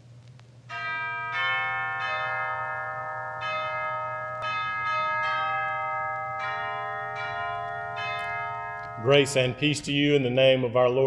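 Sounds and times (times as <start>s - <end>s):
church bells chiming: 0.7s - 11.0s.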